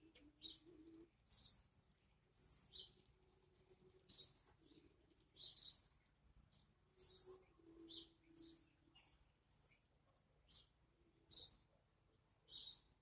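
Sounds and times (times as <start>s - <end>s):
faint low hum: 0.0s - 13.0s
songbirds chirping: 0.0s - 13.0s.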